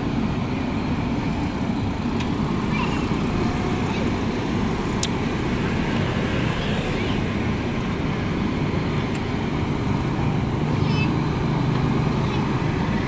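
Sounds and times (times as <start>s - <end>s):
road traffic rumble: 0.0s - 13.0s
motorcycle passing: 2.4s - 13.0s.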